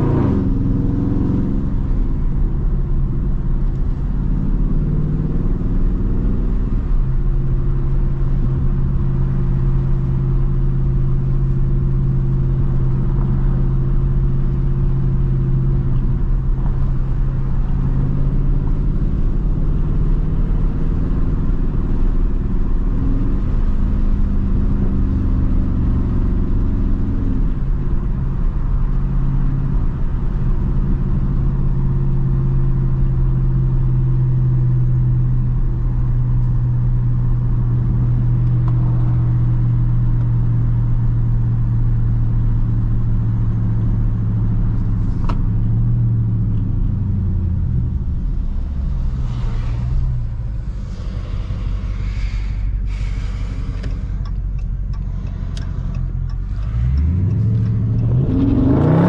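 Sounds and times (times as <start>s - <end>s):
car engine drone in cabin: 0.0s - 59.0s
road noise: 0.0s - 59.0s.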